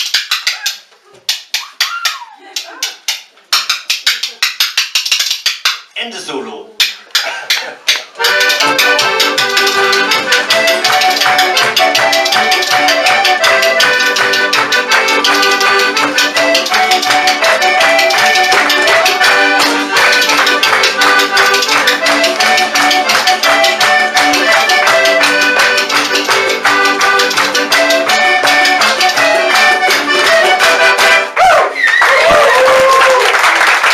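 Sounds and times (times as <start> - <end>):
polka melody: 0.0 - 6.0, 6.8 - 33.2
spoons clattering rhythmically: 0.0 - 6.0, 6.8 - 31.4.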